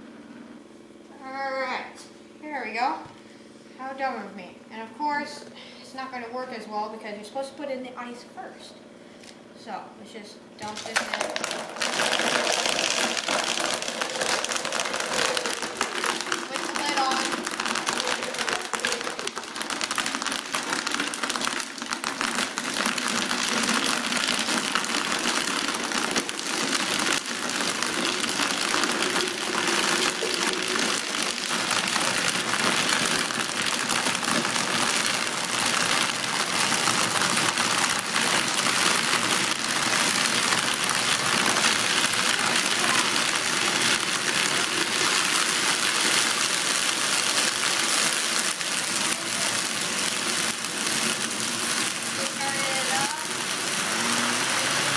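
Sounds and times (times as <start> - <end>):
blender churning ice: 10.6 - 54.9.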